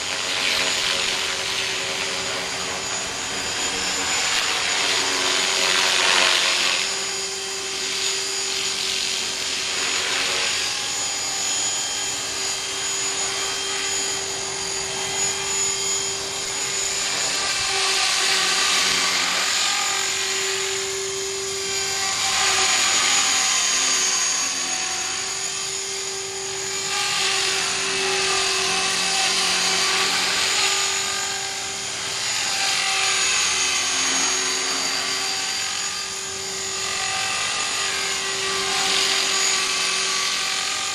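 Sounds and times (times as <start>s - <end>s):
electric motor whine: 0.0s - 40.9s.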